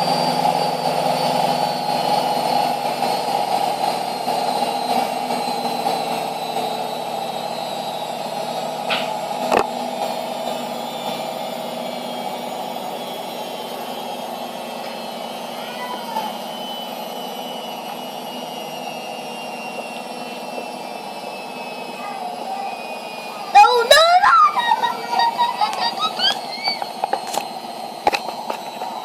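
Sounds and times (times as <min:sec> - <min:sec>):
washing machine spin whir: 0:00.0 - 0:29.0.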